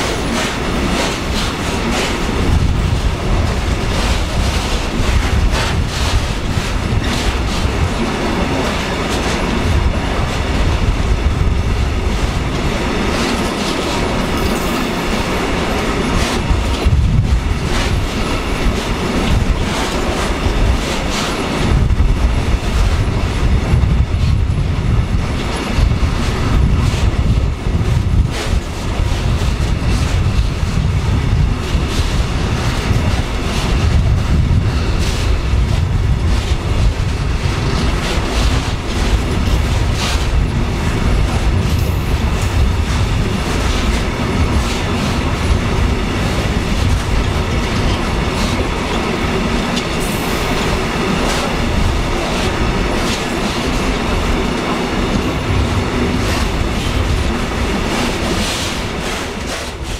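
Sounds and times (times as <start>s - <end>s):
freight train rumbling past: 0.0s - 59.9s
wheels clacking on rail joints: 0.0s - 59.9s.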